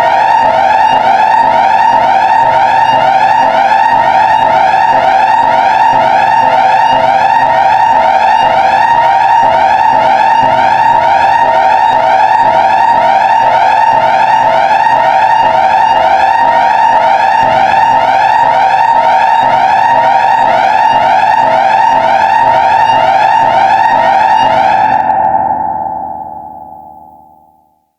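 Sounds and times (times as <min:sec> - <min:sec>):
alert alarm with rising sweeps: 0:00.0 - 0:27.6.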